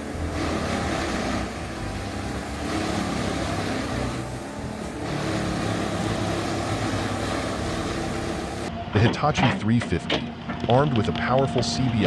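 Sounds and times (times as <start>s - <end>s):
heavy machine engine running: 0.0s - 12.0s.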